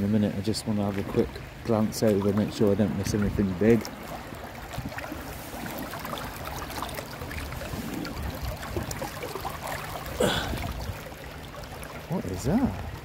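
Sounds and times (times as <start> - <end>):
river water trickling: 0.0 - 13.0.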